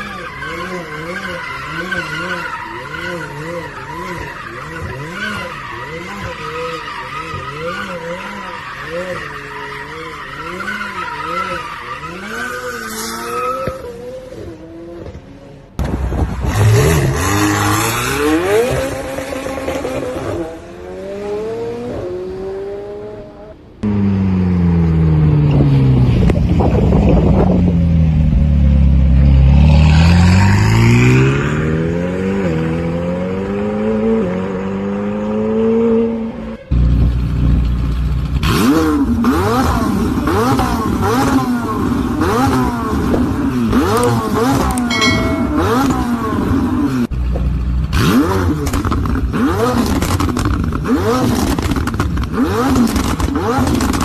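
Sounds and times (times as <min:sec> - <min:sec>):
car engines revving hard: 0:00.0 - 0:15.8, 0:16.4 - 0:24.2, 0:29.0 - 0:36.4, 0:38.2 - 0:44.9, 0:45.6 - 0:54.0.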